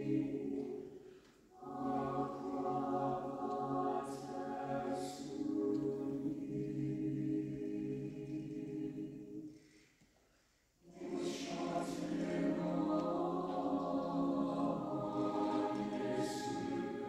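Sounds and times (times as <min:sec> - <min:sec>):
choir singing unaccompanied: 0:00.0 - 0:09.6, 0:10.8 - 0:17.0.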